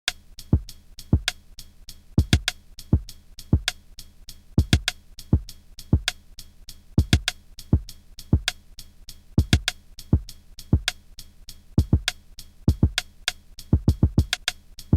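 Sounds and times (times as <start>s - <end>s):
drum machine beat: 0.0s - 14.9s.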